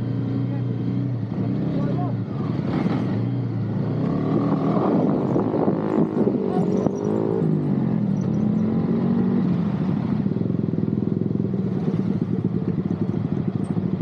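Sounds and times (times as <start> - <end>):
motorcycle engines decelerating and idling: 0.0 - 14.0.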